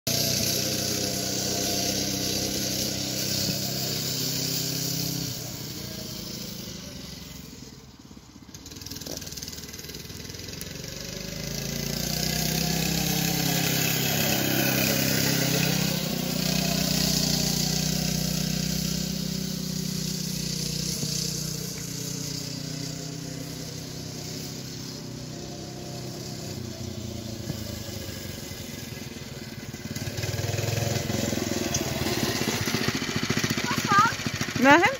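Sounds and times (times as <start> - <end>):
go-kart engine running: 0.1 - 34.9.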